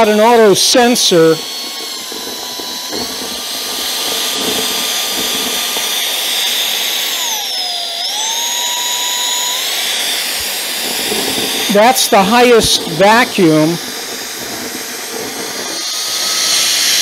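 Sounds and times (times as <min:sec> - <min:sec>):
stick vacuum motor whine: 0:00.0 - 0:17.0.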